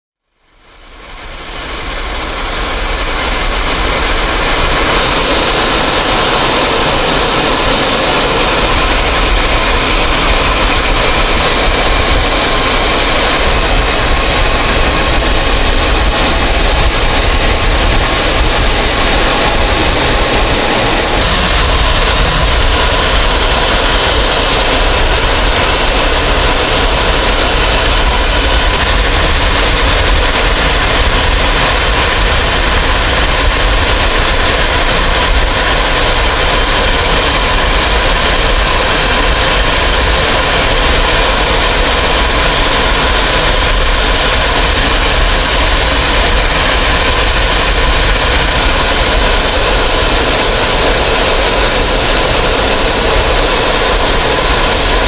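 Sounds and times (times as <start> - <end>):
aircraft engine noise: 0.2 - 55.0.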